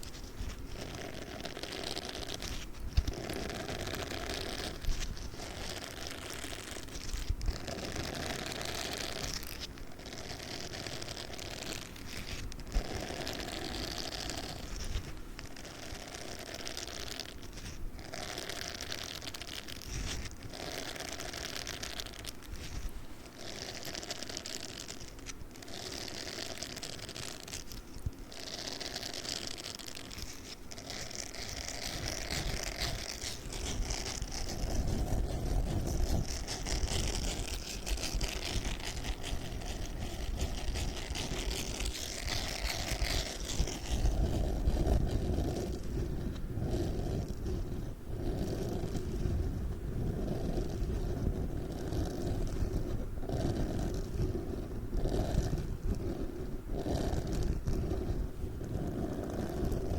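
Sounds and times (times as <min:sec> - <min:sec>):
sponge rubbing on microphone: 0:00.0 - 0:59.9.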